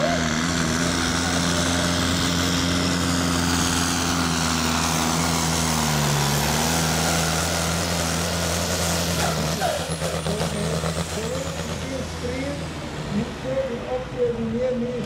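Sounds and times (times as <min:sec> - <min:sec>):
diesel engine running at high revs: 0:00.0 - 0:15.0.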